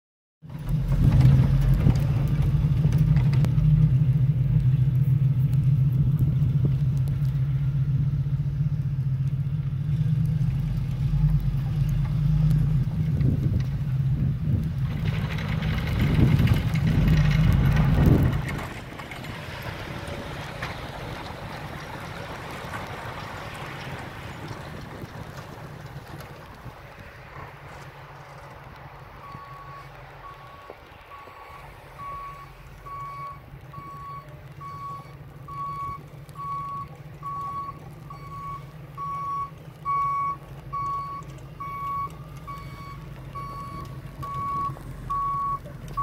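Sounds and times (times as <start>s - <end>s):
engine low drone: 0.4s - 46.0s.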